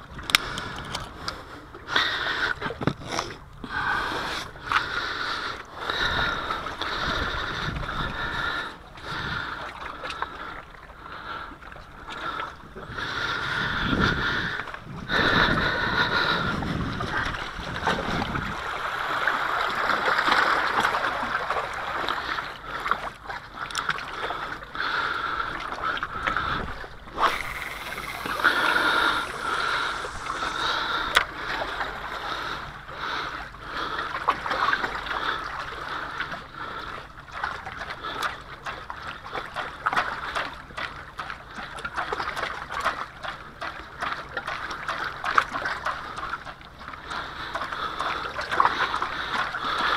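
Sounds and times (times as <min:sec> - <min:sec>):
waves lapping against rocks: 0:00.0 - 0:49.9.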